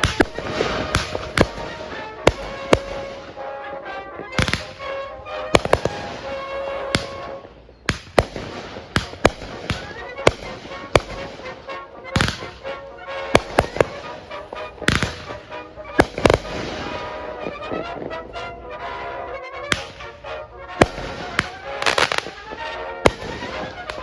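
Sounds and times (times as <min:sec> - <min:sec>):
fireworks banging: 0:00.0 - 0:24.0
music with held tones: 0:00.0 - 0:24.0.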